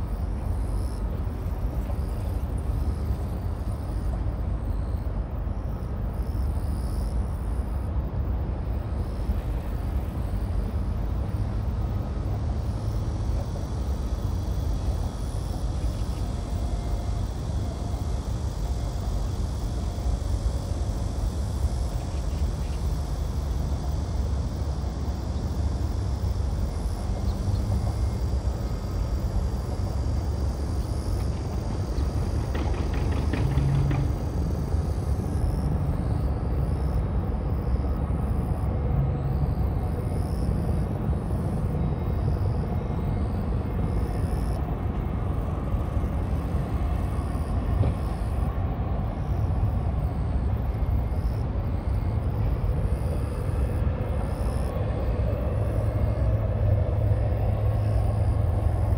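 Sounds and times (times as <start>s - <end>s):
distant road traffic rumble: 0.0s - 58.9s.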